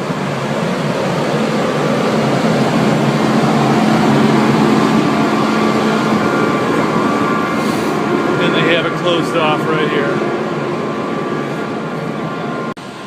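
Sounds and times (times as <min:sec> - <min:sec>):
higher steady tone: 0:00.0 - 0:13.0
vehicle engine running: 0:00.0 - 0:13.0.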